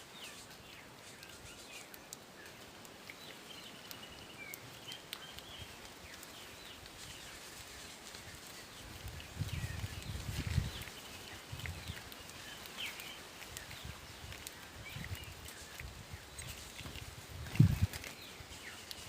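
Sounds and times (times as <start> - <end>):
faint outdoor background noise: 0.0 - 19.0
small birds chirping: 0.0 - 19.0.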